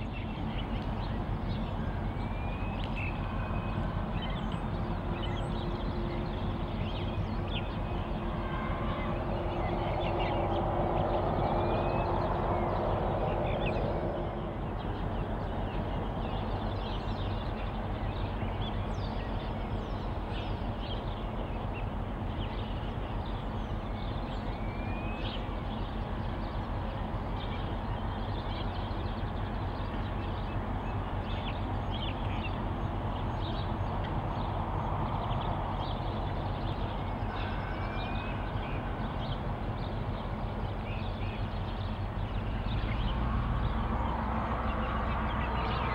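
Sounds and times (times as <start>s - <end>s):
birds chirping: 0.0s - 45.9s
diesel locomotives idling: 0.0s - 45.9s.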